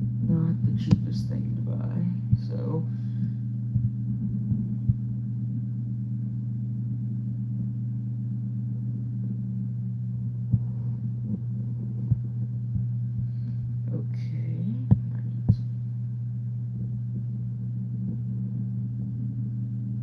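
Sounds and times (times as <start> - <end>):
steady low hum with tones: 0.0 - 20.0.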